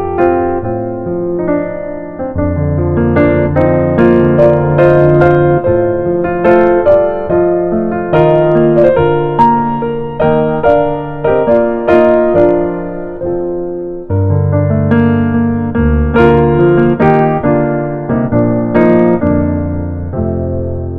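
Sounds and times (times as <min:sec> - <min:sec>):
solo piano music: 0:00.0 - 0:20.9.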